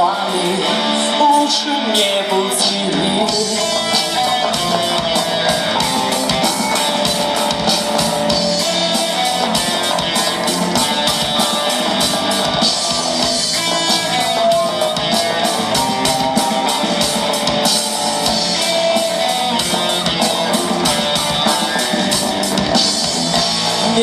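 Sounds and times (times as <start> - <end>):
drum kit beat: 0.0 - 24.0
electric guitar: 0.0 - 24.0
melodic lead line: 0.0 - 24.0.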